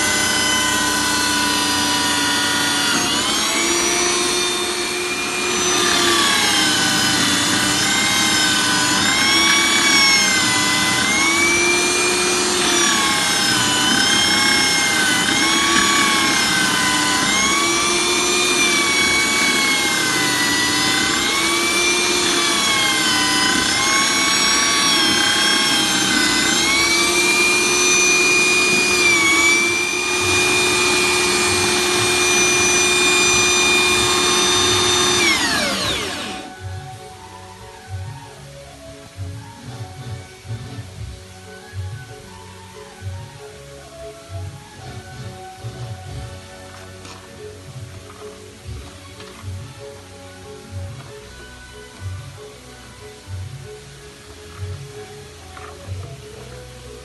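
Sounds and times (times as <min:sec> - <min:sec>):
electric drill motor whining: 0:00.0 - 0:57.0.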